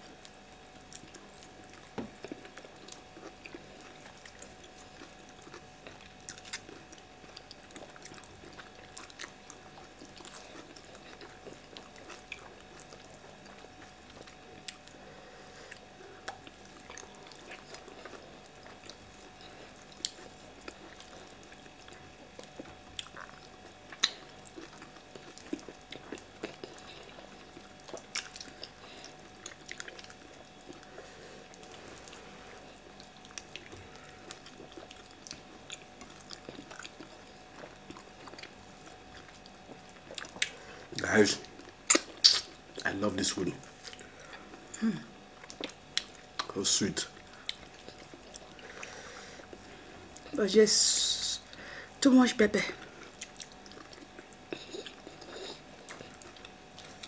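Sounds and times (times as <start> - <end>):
person chewing food: 0.0 - 43.0, 43.6 - 50.4, 52.8 - 57.0
faint steady hum: 0.0 - 57.0.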